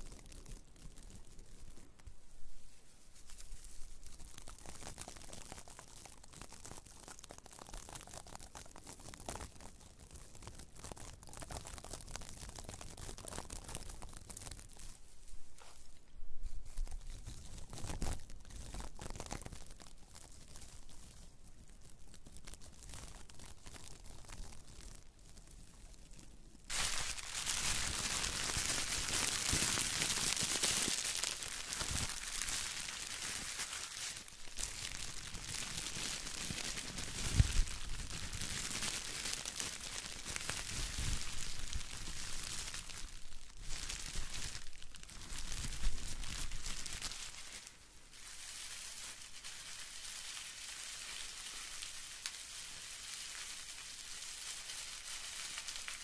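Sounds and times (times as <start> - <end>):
bubble wrap scrunched: 0.0 - 56.0
plastic crinkling in hands: 0.0 - 56.0.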